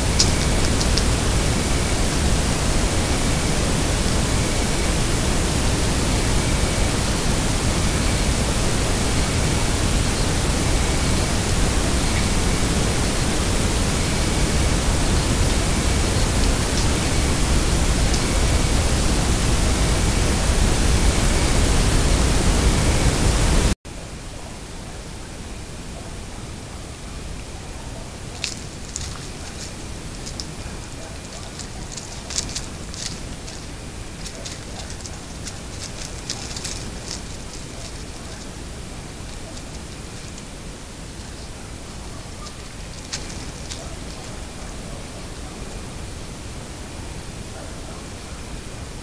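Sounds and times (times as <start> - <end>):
steady electronic hiss: 0.0 - 49.0.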